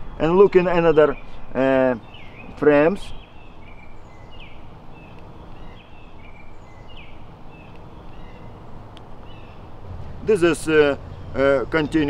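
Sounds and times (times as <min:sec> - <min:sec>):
small bird chirping: 0:00.0 - 0:09.8
low background noise: 0:00.0 - 0:12.0.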